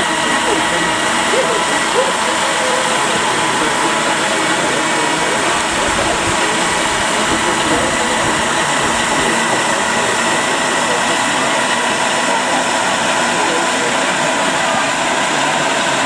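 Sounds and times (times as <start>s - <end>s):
crowd chatter: 0.0s - 16.0s
mechanical drone: 0.0s - 16.0s.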